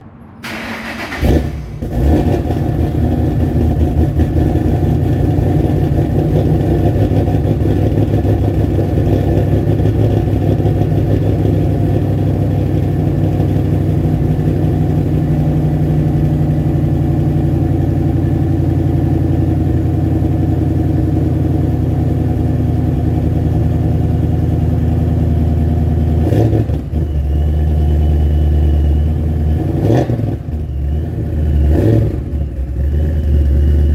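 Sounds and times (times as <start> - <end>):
car engine lopey idle: 0.4 - 29.7, 30.4 - 33.9.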